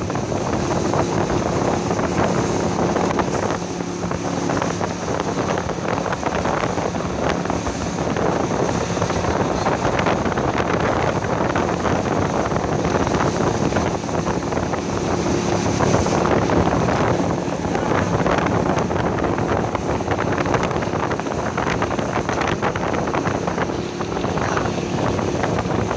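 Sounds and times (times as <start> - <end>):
boat motor running: 0.0 - 25.9
wind buffeting microphone: 0.0 - 25.9.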